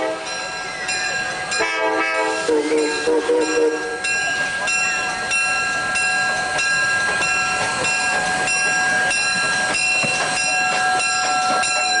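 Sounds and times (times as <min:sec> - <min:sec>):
train passing: 0:00.0 - 0:12.0
steady ringing tones: 0:00.3 - 0:12.0.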